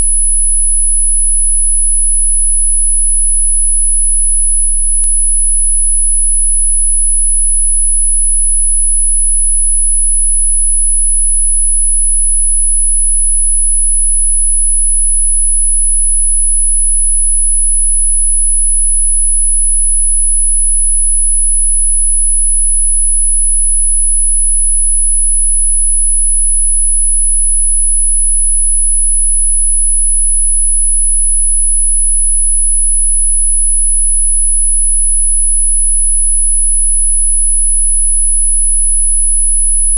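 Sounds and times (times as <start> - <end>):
high-pitched sine tone: 0.0 - 39.9.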